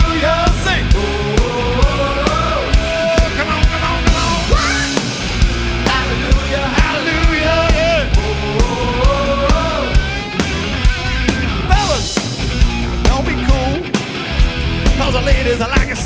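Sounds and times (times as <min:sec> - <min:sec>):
rock band music: 0:00.0 - 0:16.0.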